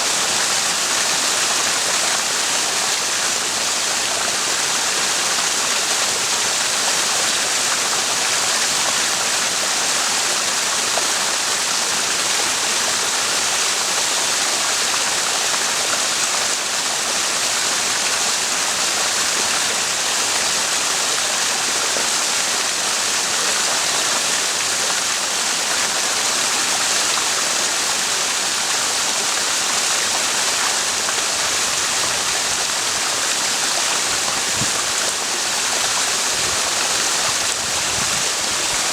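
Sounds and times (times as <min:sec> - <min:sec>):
stream flowing and splashing: 0:00.0 - 0:38.9.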